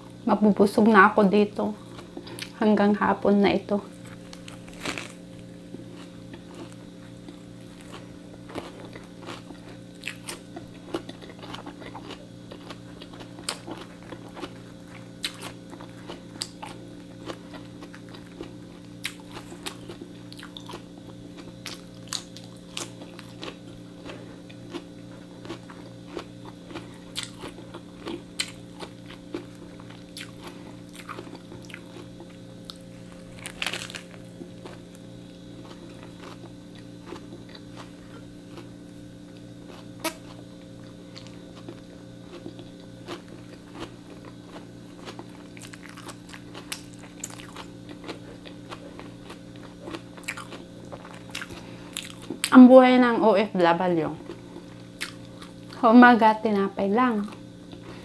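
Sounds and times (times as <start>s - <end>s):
steady low hum: 0.0s - 58.0s
crunching of sandwich bites: 4.0s - 52.5s.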